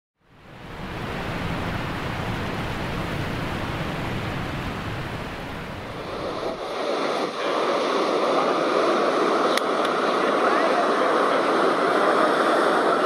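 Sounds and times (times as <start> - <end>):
wind: 0.2 - 13.0
ocean surf: 0.3 - 13.0.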